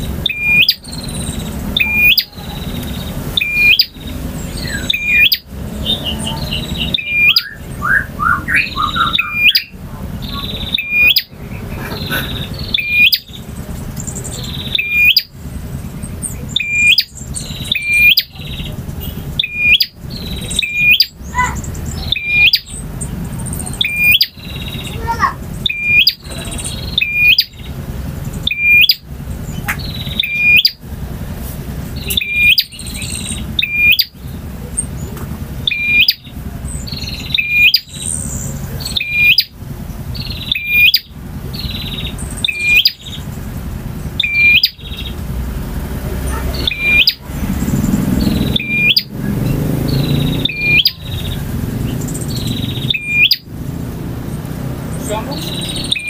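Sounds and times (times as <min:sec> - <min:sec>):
bird singing high phrases: 0:00.0 - 0:56.0
bird twittering: 0:00.0 - 0:56.0.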